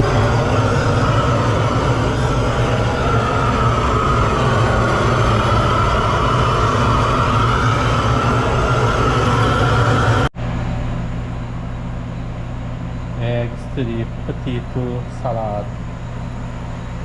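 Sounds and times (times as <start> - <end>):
kitchen range rushing hum: 0.0 - 17.0.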